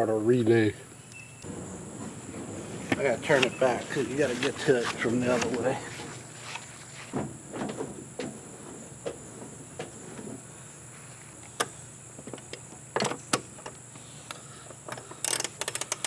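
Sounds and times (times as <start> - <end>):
insects droning: 0.5 - 16.0.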